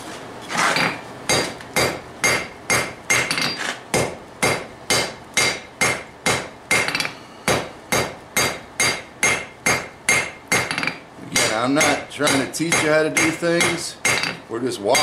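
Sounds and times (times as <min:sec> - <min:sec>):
hammer striking anvil: 0:00.8 - 0:15.0.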